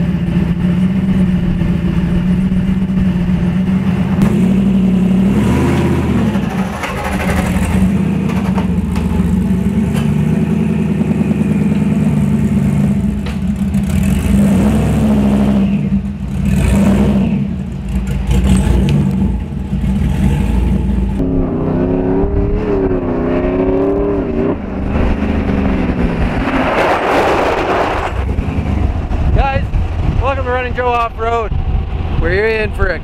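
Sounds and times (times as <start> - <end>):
engine idling and revving: 0.0 - 33.0
truck moving on dirt road: 0.0 - 33.0.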